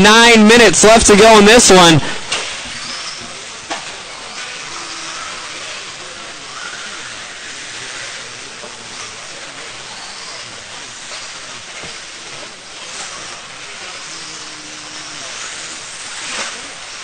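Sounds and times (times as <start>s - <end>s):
rc car motors and tyres hissing: 0.4s - 17.0s.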